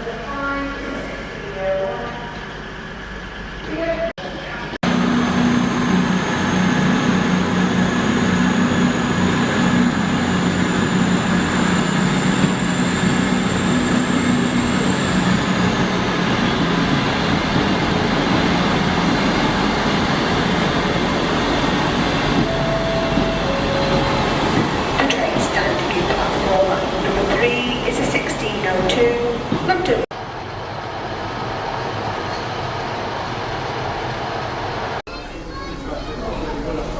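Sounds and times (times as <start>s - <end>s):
train rumbling: 0.0s - 36.9s.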